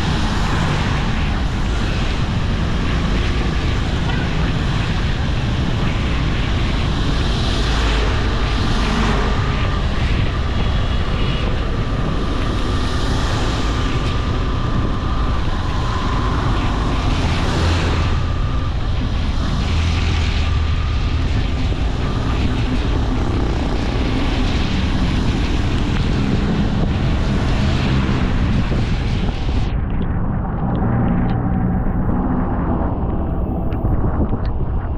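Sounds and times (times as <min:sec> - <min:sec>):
road noise: 0:00.0 - 0:34.9
wind buffeting microphone: 0:00.0 - 0:34.9.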